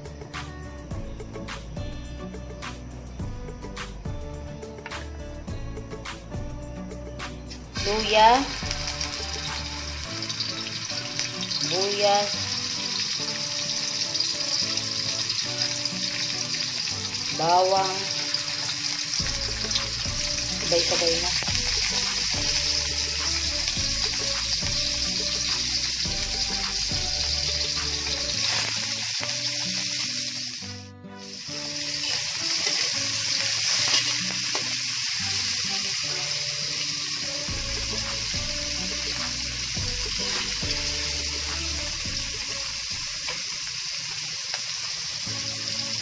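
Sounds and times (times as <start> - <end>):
background music: 0.0 - 46.0
food sizzling in hot oil: 4.8 - 46.0.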